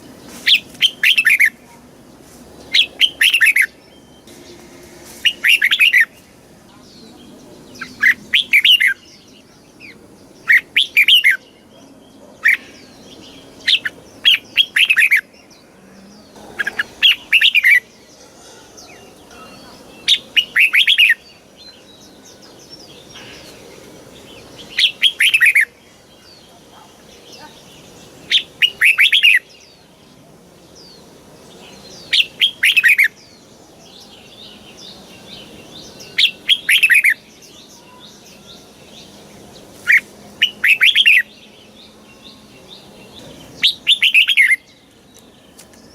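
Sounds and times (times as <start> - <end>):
bird singing warbled phrases: 0.0 - 45.9.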